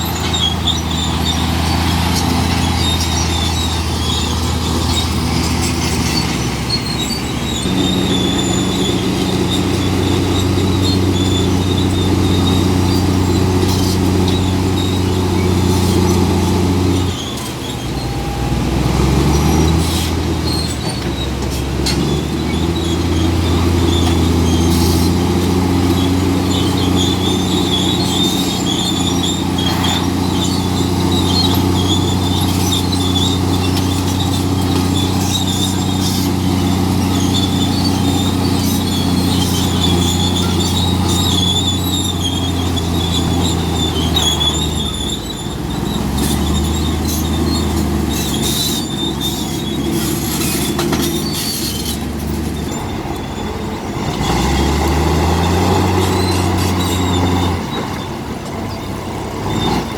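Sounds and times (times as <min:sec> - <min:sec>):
bulldozer diesel engine: 0:00.0 - 0:59.9
steel tracks squealing: 0:00.0 - 0:59.9.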